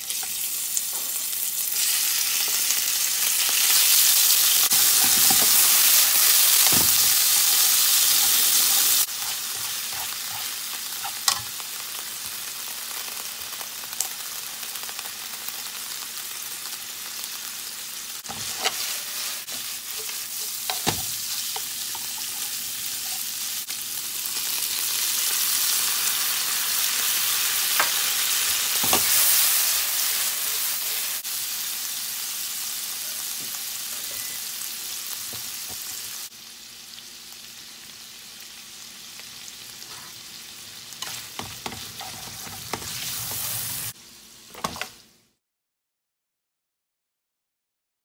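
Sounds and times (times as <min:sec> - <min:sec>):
meat sizzling in a frying pan: 0:00.0 - 0:45.2.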